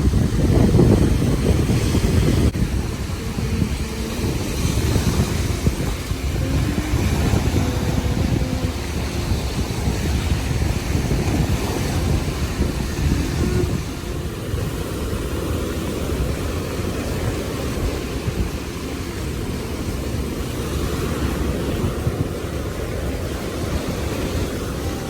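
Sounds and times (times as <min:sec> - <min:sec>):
surf washing: 0:00.0 - 0:25.0
wind buffeting microphone: 0:00.0 - 0:25.0.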